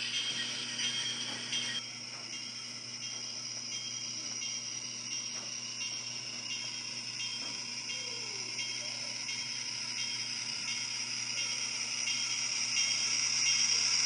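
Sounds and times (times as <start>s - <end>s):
model locomotive diesel hum: 0.0s - 14.0s.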